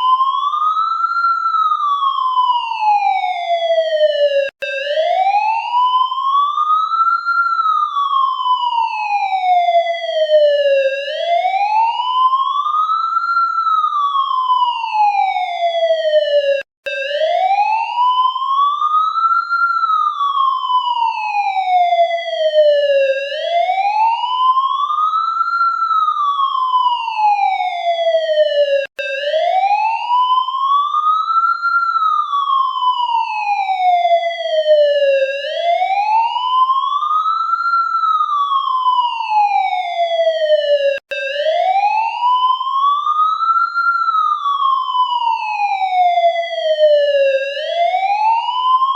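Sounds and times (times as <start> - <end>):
electronic police siren wailing: 0.0 - 48.9.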